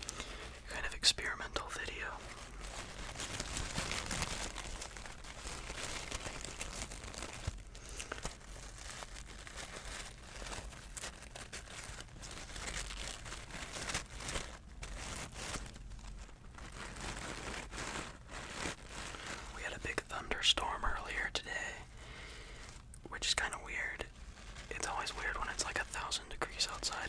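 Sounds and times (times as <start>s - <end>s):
crinkly material crackling: 0.0s - 27.0s.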